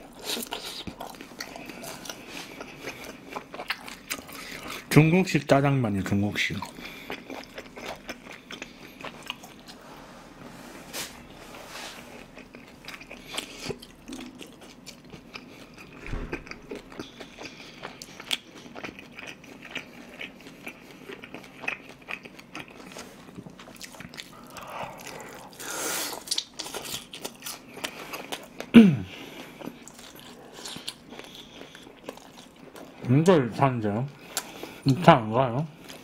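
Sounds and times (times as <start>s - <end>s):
person chewing food: 0.0s - 4.9s, 6.5s - 10.4s, 11.0s - 33.2s, 34.1s - 35.0s, 35.7s - 36.0s.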